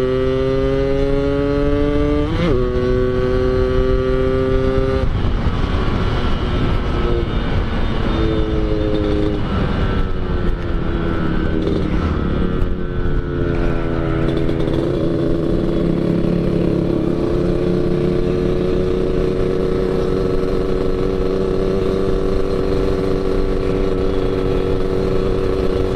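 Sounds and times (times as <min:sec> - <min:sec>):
motorcycle engine running: 0:00.0 - 0:25.9
wind and road noise: 0:00.0 - 0:25.9.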